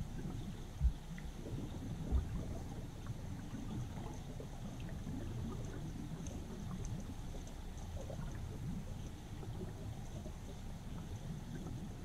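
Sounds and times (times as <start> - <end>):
faint ticks: 0.0 - 12.0
underwater river rumble: 0.0 - 12.0.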